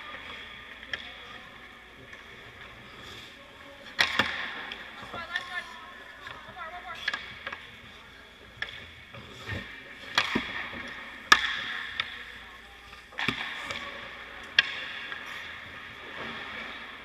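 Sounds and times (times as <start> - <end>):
hockey sticks knocking pucks: 0.1 - 16.6.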